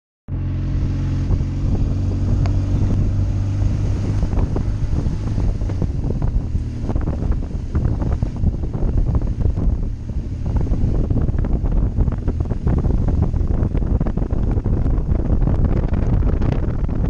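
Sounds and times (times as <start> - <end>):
motorcycle engine running: 0.3 - 17.0
wind buffeting microphone: 0.3 - 17.0.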